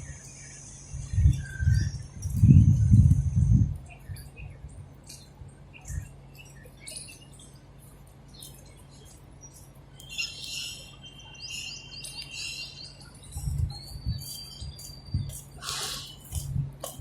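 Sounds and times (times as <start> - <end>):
sparrows chirping: 0.0 - 16.4.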